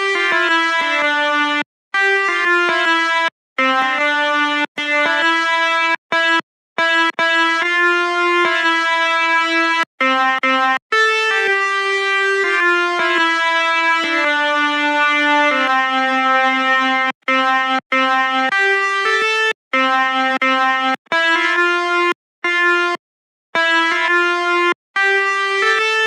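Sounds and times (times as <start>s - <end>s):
horn-like keyboard melody: 0.0s - 23.0s, 23.6s - 26.0s.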